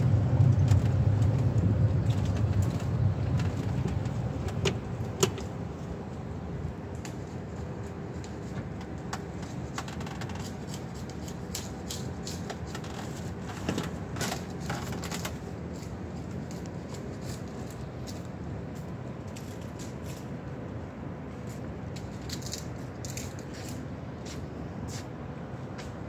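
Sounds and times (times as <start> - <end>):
low city hum: 0.0 - 26.0.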